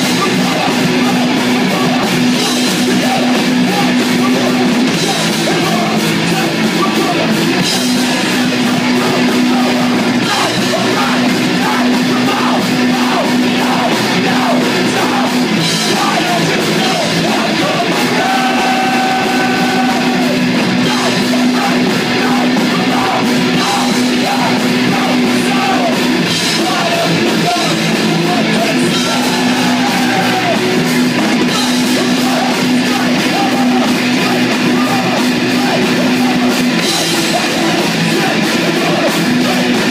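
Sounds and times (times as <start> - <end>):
distorted electric guitars: 0.0 - 39.9
drum kit: 0.0 - 39.9
electric bass: 0.0 - 39.9
shouted vocals: 0.0 - 39.9.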